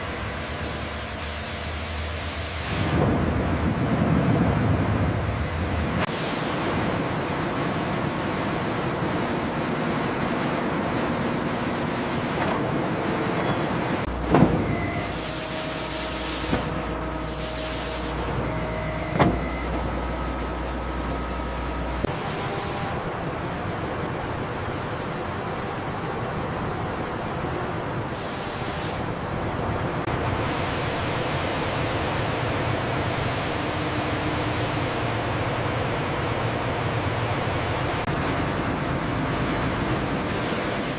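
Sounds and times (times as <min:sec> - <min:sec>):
sawmill machinery roaring: 0:00.0 - 0:40.9.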